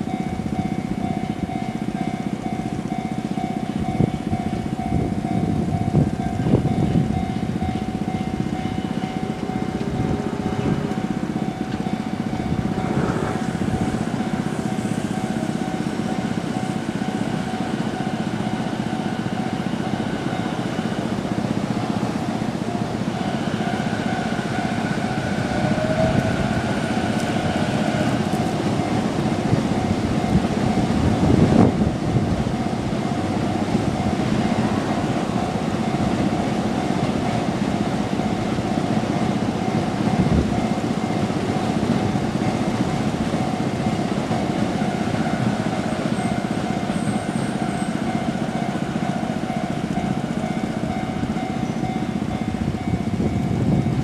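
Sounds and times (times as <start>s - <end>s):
electric train running: 0.0s - 54.0s
level crossing warning bell ringing: 0.0s - 54.0s.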